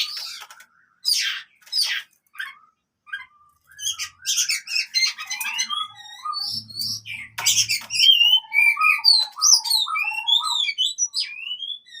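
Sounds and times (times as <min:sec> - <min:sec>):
songbird whistles and chirps: 0:00.0 - 0:12.0.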